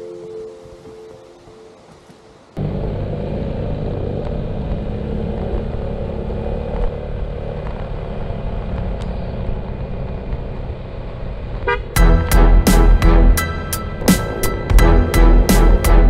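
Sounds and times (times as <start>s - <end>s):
road and wind rumble: 0.2s - 16.0s
motorcycle engine running: 2.6s - 16.0s.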